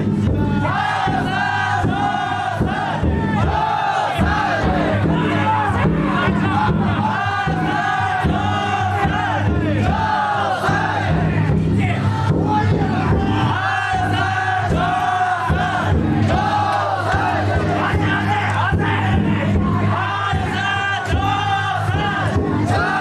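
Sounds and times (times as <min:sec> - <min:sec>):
crowd singing and chanting: 0:00.0 - 0:23.0.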